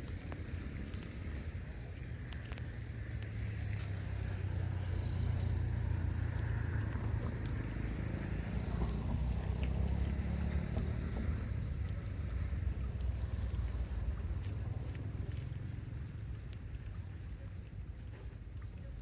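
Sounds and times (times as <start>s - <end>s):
engine humming: 0.0s - 17.3s.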